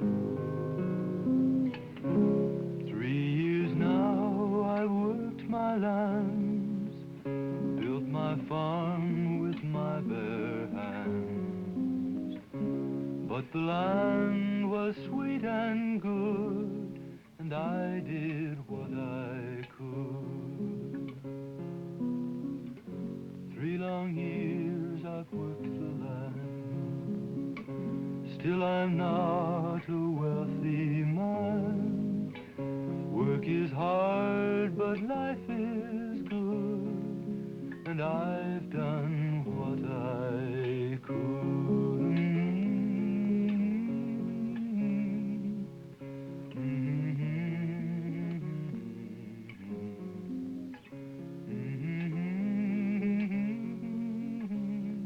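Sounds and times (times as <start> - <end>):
acoustic guitar: 0.0 - 55.0
slow sung melody: 0.0 - 55.0.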